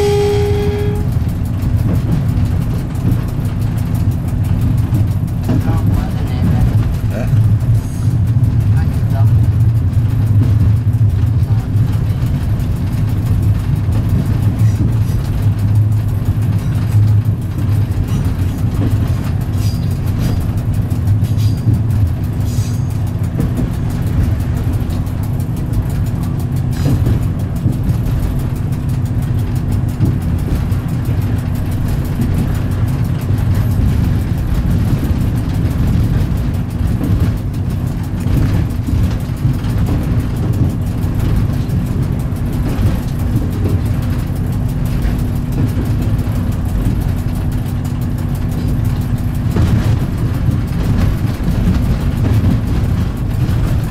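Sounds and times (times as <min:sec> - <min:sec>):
diesel train engine drone: 0:00.0 - 0:53.9
wheel and rail noise: 0:00.0 - 0:53.9.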